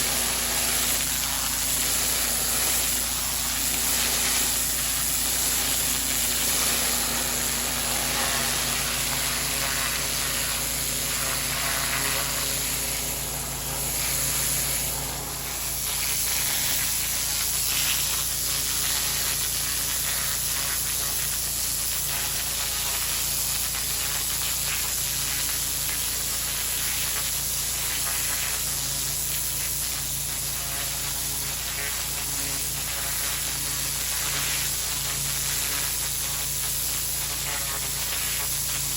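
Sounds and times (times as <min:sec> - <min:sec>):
pressure washer spraying paving: 0:00.0 - 0:38.9.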